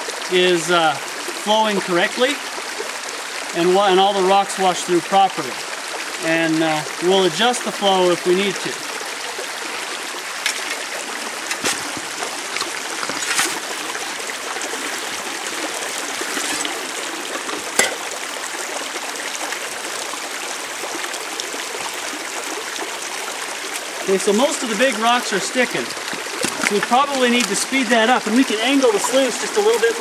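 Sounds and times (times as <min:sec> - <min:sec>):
creek water running through sluice: 0:00.0 - 0:30.0.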